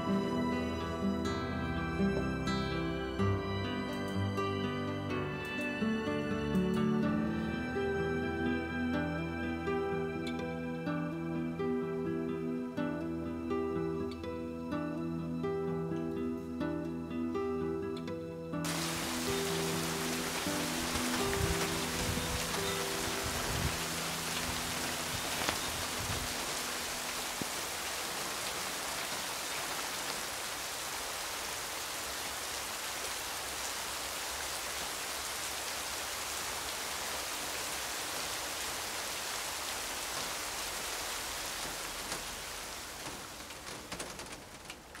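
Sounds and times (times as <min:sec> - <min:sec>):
steady rain falling: 0:00.0 - 0:16.6, 0:18.6 - 0:45.0.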